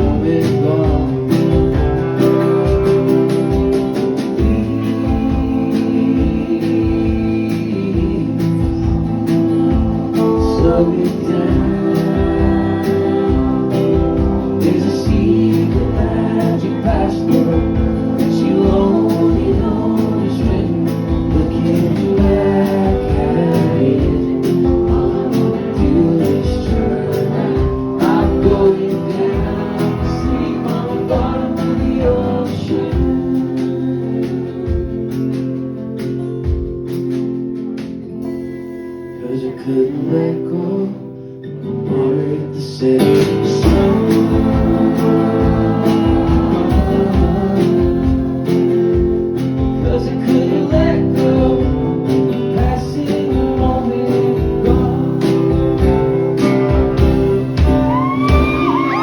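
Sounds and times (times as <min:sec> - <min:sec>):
folk band music: 0:00.0 - 0:38.8, 0:43.6 - 0:59.0
guitars: 0:00.0 - 0:59.0.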